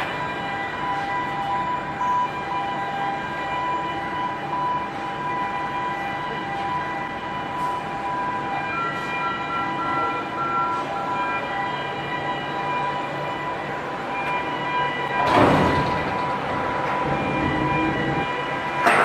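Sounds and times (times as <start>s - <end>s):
heavy machinery whining: 0.0s - 19.0s.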